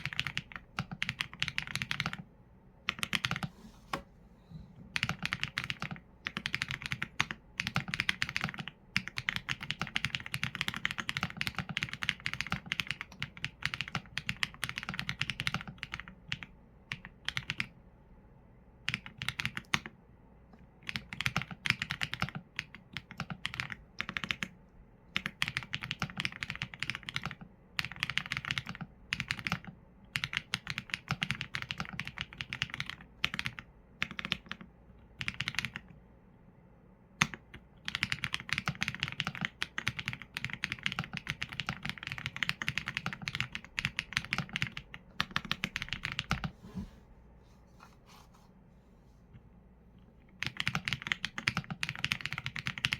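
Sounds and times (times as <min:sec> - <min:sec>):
mechanical keyboard typing: 0:00.0 - 0:02.3, 0:02.9 - 0:03.5, 0:04.9 - 0:17.7, 0:18.9 - 0:20.0, 0:20.8 - 0:35.9, 0:37.2 - 0:46.5, 0:50.4 - 0:52.9.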